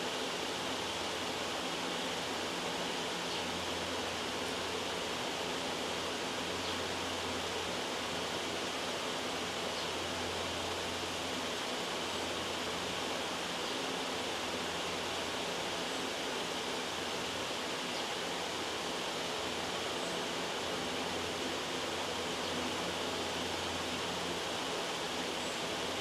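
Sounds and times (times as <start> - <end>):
loud white noise hiss: 0.0 - 26.0.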